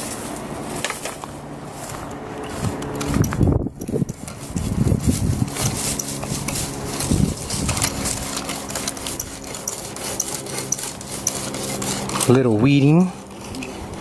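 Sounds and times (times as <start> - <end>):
hoe blade thumping ground: 0.0 - 14.0
hoe scraping dry dirt: 0.0 - 14.0
steady low hum: 0.0 - 14.0.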